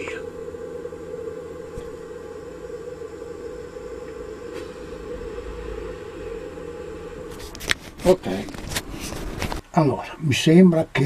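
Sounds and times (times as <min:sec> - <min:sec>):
small fan humming: 0:00.0 - 0:11.0.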